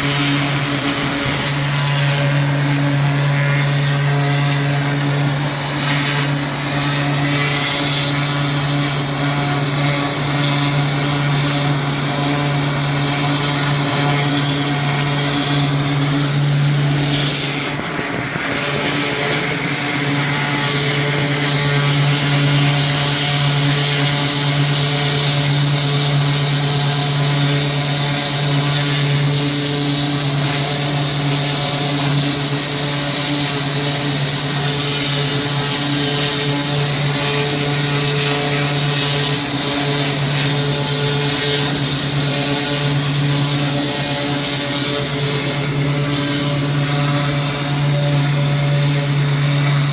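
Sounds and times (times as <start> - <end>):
small gasoline engine running: 0.0 - 49.9.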